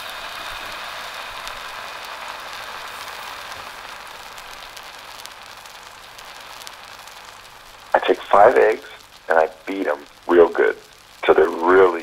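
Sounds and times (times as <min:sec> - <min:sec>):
pancake batter sizzling: 0:00.0 - 0:12.0.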